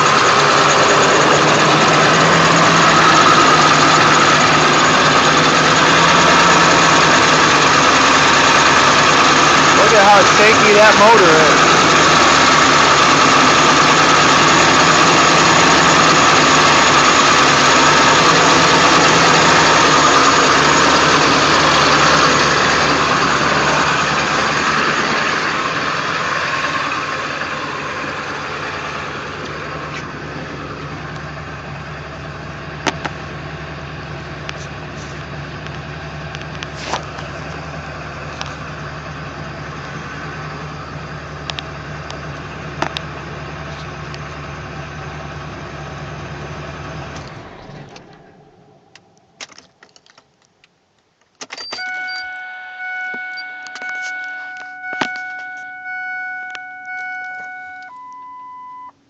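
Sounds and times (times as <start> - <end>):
diesel engine idling rough: 0.0 - 49.4.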